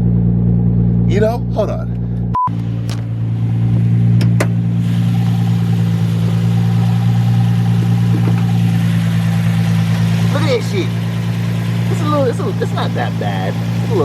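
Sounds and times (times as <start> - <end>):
sports car engine idling: 0.0 - 14.0.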